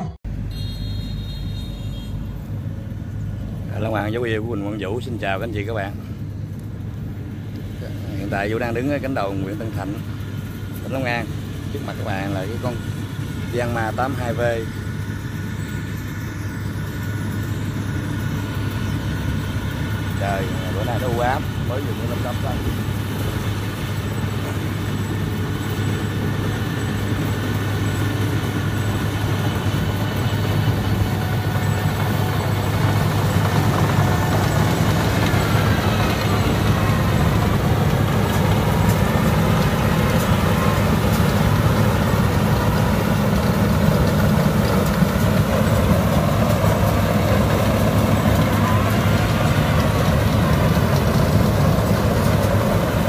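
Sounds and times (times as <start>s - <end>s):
combine harvester engine running: 0.0s - 53.0s.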